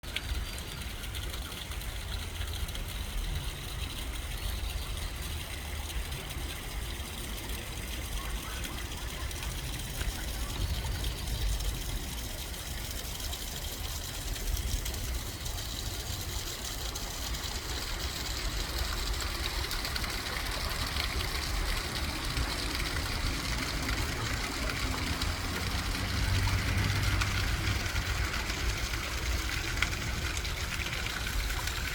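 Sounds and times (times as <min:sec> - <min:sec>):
stream water trickling: 0:00.0 - 0:31.9.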